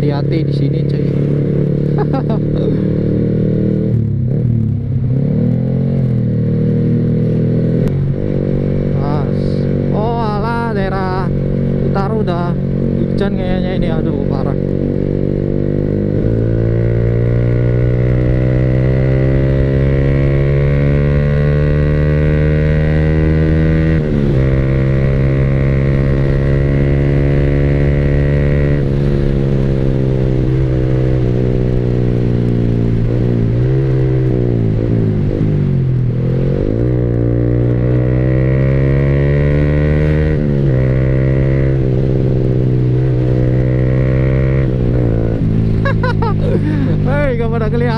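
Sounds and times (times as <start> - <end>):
motorcycle engine exhaust note: 0.0 - 47.9.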